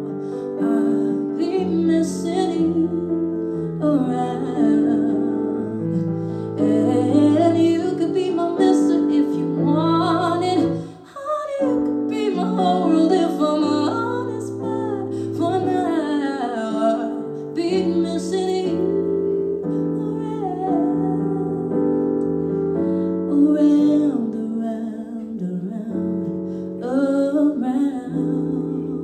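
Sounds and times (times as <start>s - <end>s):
keyboard chords: 0.0s - 29.0s
woman singing: 0.0s - 29.0s.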